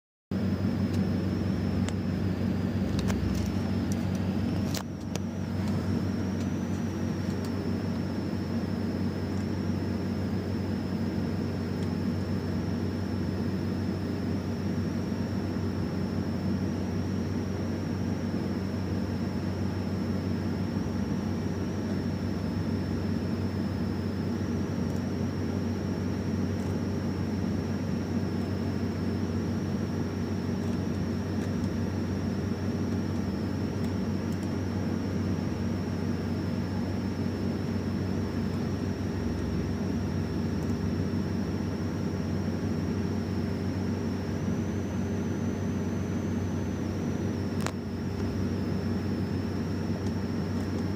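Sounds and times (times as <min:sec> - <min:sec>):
machine hum and hiss: 0:00.3 - 0:50.9
high-pitched whine: 0:00.4 - 0:50.9.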